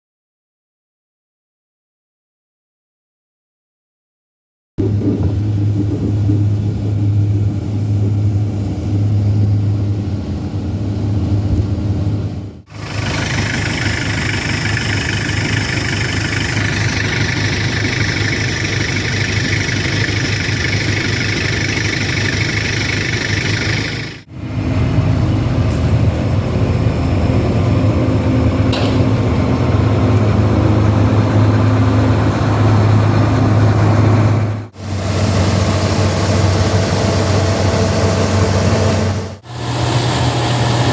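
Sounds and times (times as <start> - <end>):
dense machine noise: 4.8 - 40.9
harvester engine drone: 4.8 - 40.9.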